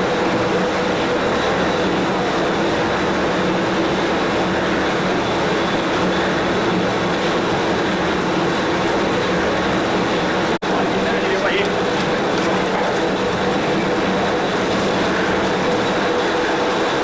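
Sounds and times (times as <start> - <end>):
lathe mechanical hum: 0.0 - 17.0.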